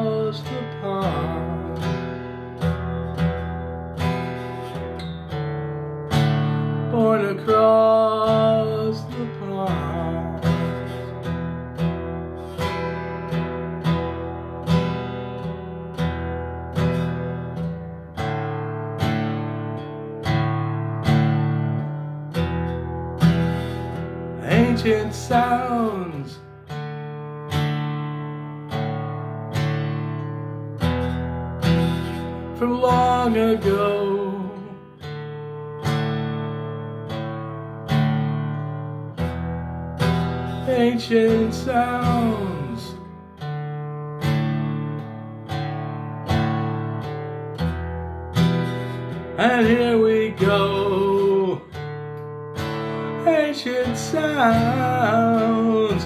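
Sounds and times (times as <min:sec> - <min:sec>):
guitar strumming: 0:00.0 - 0:56.0.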